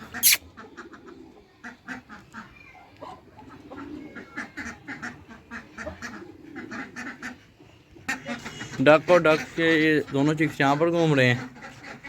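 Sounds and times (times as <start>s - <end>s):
ducks quacking: 0.0s - 2.6s, 3.5s - 12.0s.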